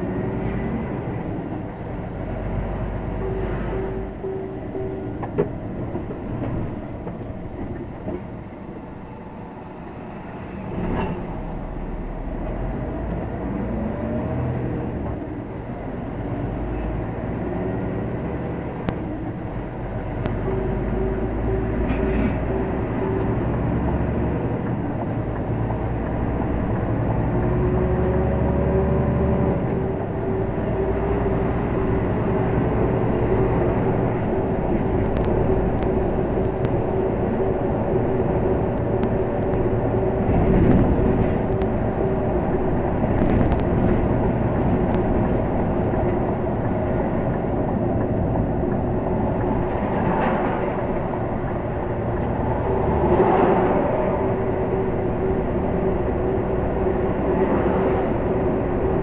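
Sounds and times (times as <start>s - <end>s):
diesel engine drone: 0.0s - 59.0s
road noise: 0.0s - 59.0s.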